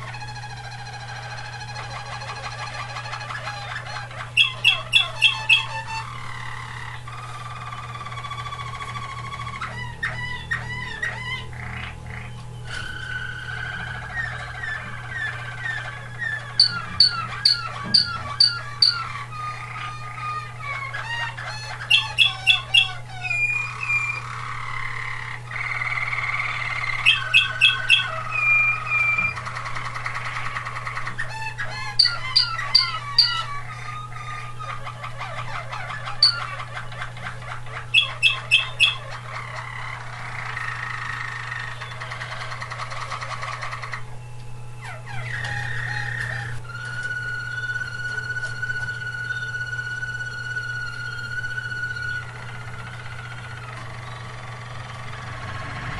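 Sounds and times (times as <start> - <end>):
canaries singing: 0.0 - 55.9
steady low hum: 0.0 - 55.9.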